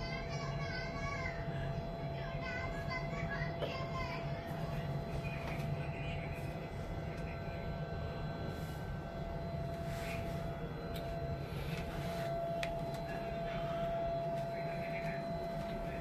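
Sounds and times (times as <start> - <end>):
low mechanical hum: 0.0 - 16.0
thin steady tone: 0.0 - 16.0.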